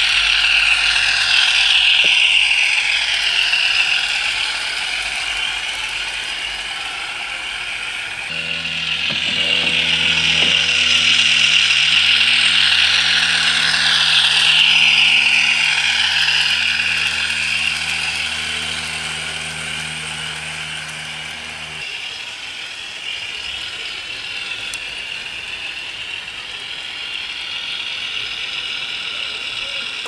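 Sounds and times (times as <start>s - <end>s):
diesel engine sound from small speaker: 0.0s - 30.0s
model train wheels clicking and rattling: 0.0s - 30.0s.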